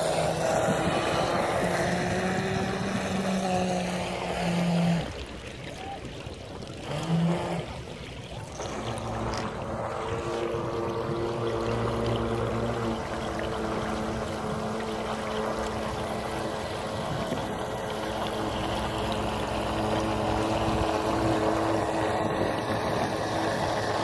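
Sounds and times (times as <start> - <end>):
model boat motor whine: 0.0 - 24.0
wake splashing: 0.0 - 24.0
wind on microphone: 0.0 - 24.0.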